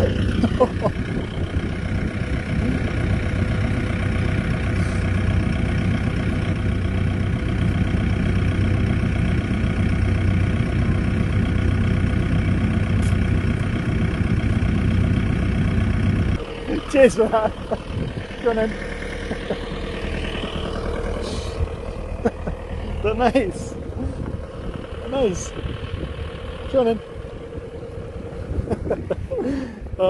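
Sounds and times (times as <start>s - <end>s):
van engine idling: 0.0s - 30.0s.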